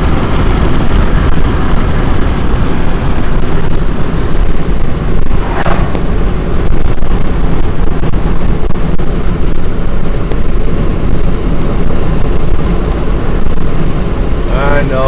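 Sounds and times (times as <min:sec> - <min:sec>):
car road and wind noise: 0:00.0 - 0:15.0.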